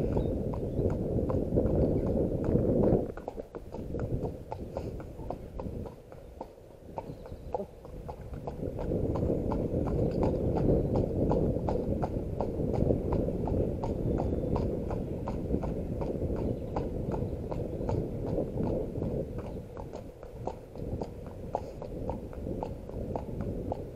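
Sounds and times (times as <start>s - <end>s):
hooves clip-clopping on tarmac: 0.0s - 23.9s.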